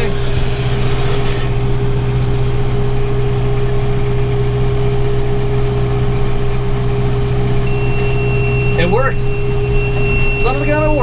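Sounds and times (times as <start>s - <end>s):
baler mechanical whine: 0.0s - 11.0s
tractor engine running: 0.0s - 11.0s.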